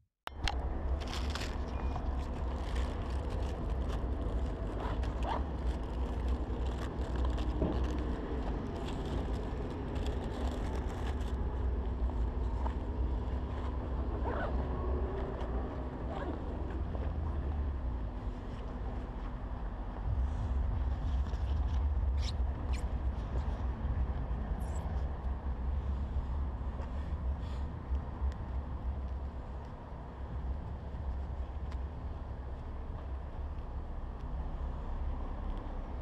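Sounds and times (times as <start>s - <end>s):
steady low rumble: 0.3s - 36.0s.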